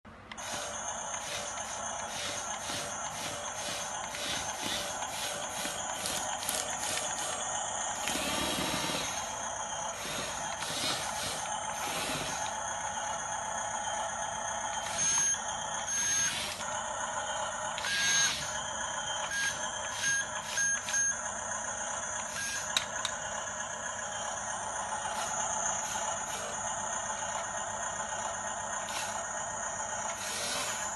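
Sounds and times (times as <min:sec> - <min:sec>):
electric motors whirring: 0:00.3 - 0:30.9.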